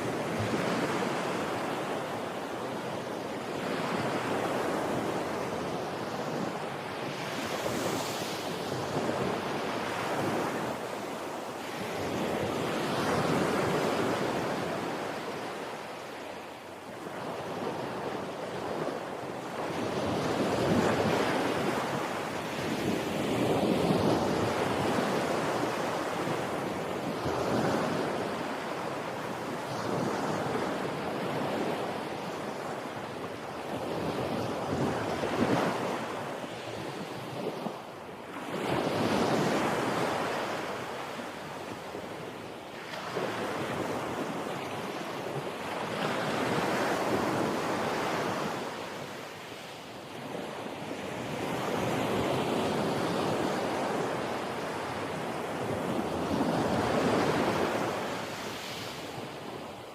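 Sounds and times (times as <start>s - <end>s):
wind: 0.0s - 59.9s.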